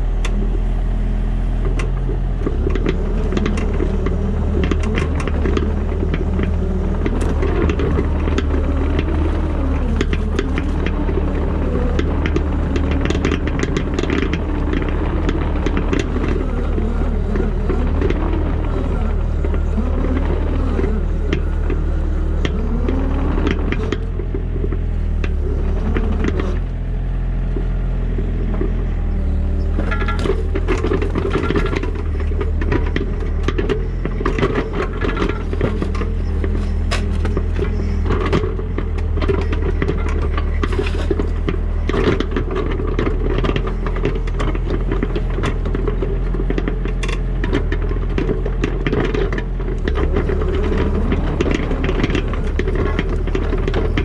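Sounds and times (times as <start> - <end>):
digger diesel engine working: 0.0 - 54.0
scraping and clattering: 1.8 - 54.0.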